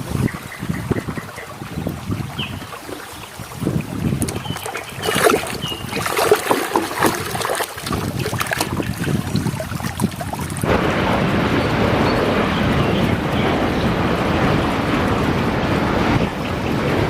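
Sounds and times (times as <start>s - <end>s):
running water rushing: 0.0s - 17.0s
water splashing and sloshing: 0.0s - 17.0s.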